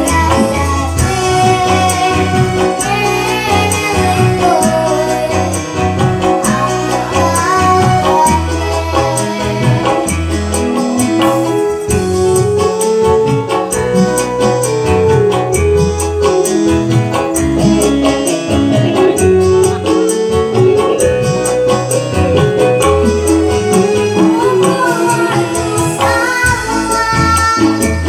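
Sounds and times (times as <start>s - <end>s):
bass line: 0.0s - 28.0s
electronic keyboard melody: 0.0s - 28.0s.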